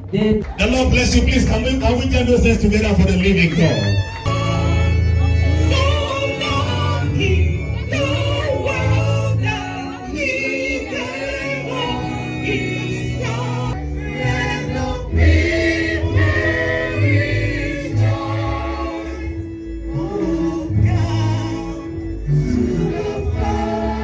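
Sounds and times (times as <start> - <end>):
bass accompaniment: 0.0 - 24.0
group singing gospel song: 4.3 - 24.0.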